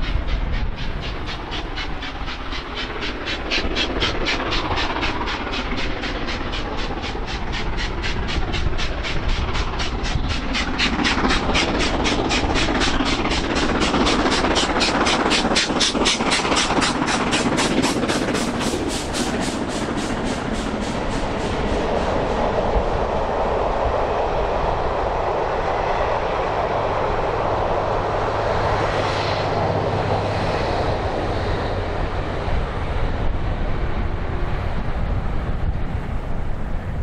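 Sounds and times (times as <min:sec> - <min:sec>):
steam locomotive exhaust beats: 0:00.0 - 0:37.0.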